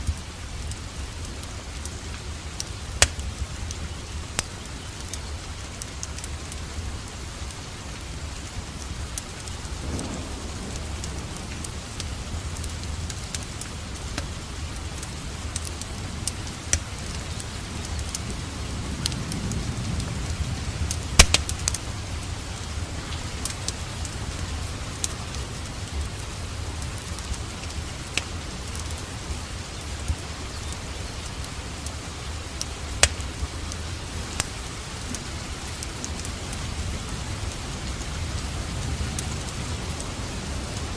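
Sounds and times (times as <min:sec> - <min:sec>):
fire crackling and popping: 0:00.0 - 0:40.9
steady rain: 0:00.0 - 0:40.9.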